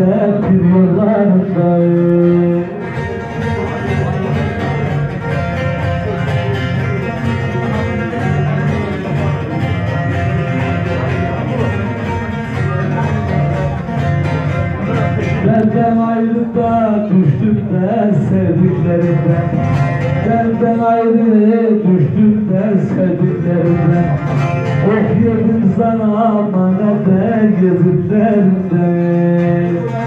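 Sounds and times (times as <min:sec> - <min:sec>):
plucked long-necked lute: 0:00.0 - 0:30.0.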